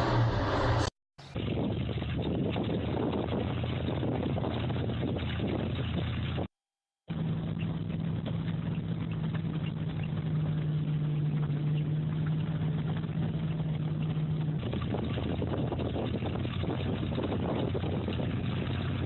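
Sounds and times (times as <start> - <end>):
engine humming: 0.0 - 6.5, 7.1 - 19.0.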